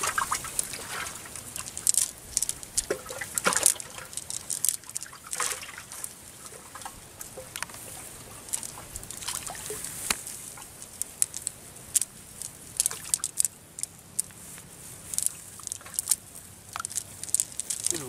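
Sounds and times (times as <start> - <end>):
net mesh crackling ticks: 0.0 - 18.0
water dripping and trickling: 0.0 - 18.0.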